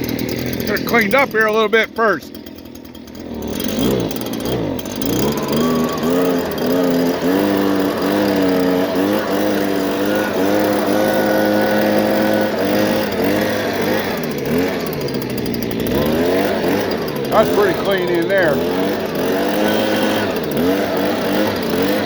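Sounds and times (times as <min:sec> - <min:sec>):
small motor running: 0:00.0 - 0:22.0.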